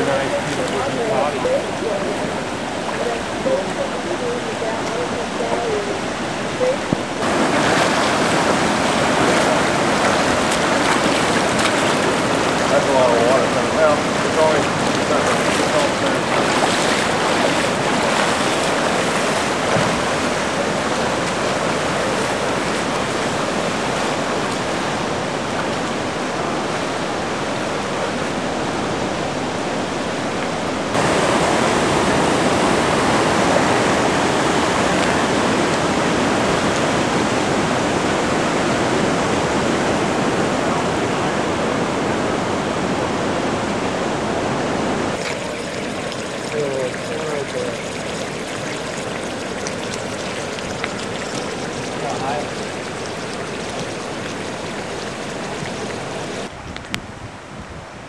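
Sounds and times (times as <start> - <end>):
floodwater rushing across a street: 0.0 - 56.5.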